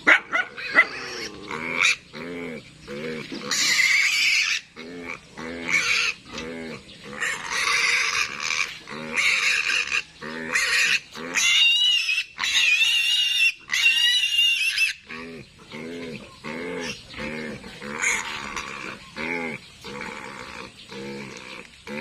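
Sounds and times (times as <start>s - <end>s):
piglet squealing: 0.3s - 2.1s, 3.0s - 6.4s, 7.0s - 21.7s.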